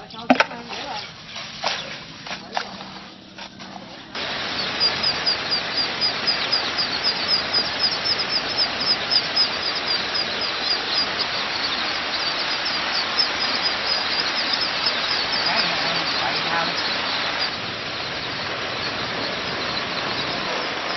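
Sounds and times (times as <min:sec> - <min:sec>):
ducklings peeping: 0:00.0 - 0:20.9.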